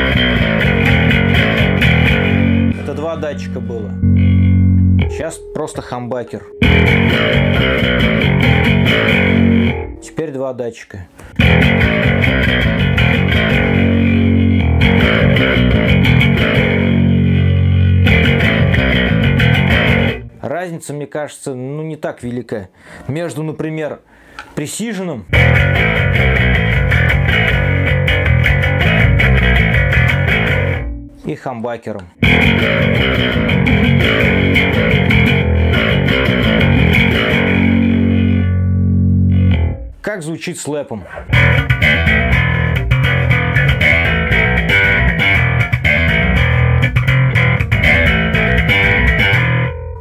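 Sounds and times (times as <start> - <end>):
overdriven electric bass notes: 0.0 - 10.4, 11.2 - 20.4, 25.3 - 31.4, 32.2 - 40.1, 41.1 - 50.0.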